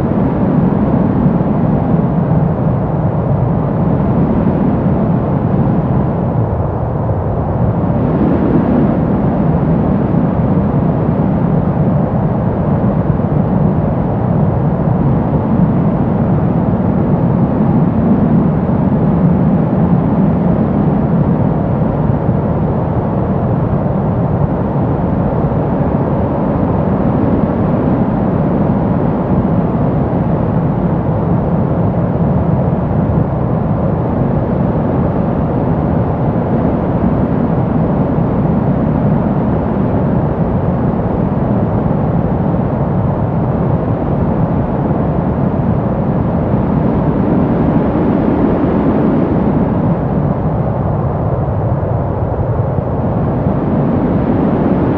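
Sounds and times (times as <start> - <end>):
deep rushing brown noise: 0.0 - 54.9.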